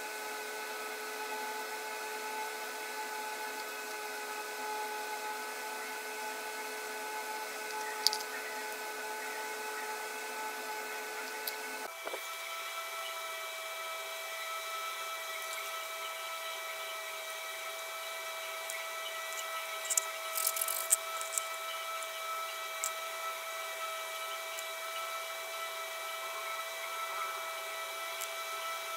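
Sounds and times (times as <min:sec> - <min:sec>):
small electric motor whining: 0:00.0 - 0:28.9.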